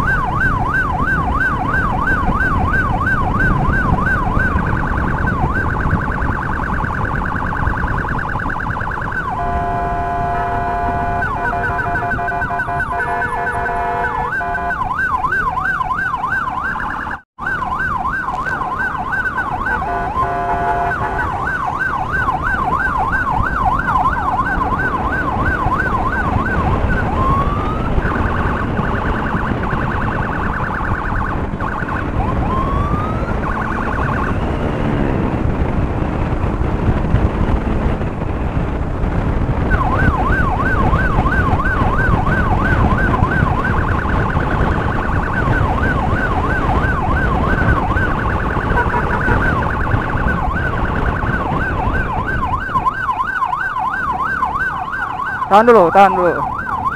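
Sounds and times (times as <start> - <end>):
electronic emergency siren: 0.0 - 56.9
engine and road noise: 0.0 - 56.9.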